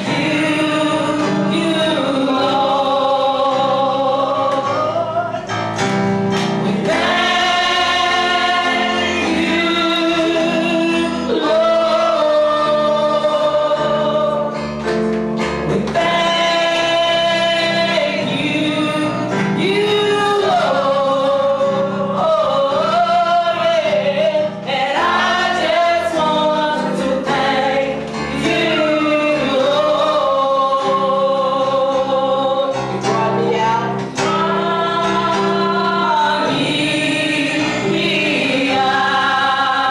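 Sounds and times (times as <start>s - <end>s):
choir singing held notes: 0.0s - 39.9s.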